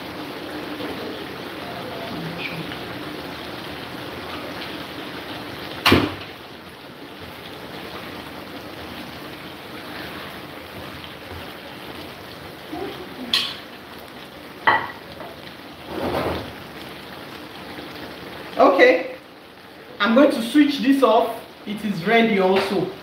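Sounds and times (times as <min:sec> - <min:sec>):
sauce sizzling in a pan: 0:00.0 - 0:23.0.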